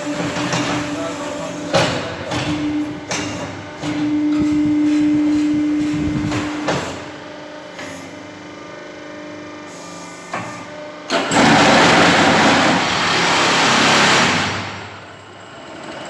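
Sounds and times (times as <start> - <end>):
hydraulic press humming: 0.0 - 8.2, 9.6 - 15.1.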